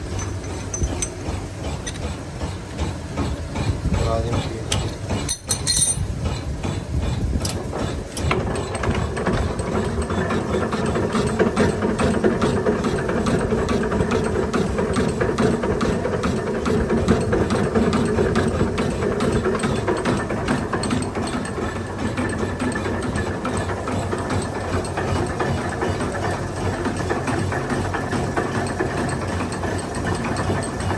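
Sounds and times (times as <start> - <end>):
milling machine rattling: 0.0 - 30.9.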